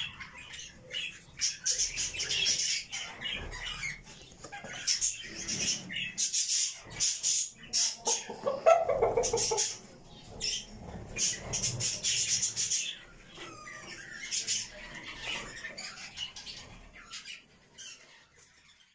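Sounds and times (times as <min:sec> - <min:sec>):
budgerigars squawking and chattering: 0:00.0 - 0:18.9.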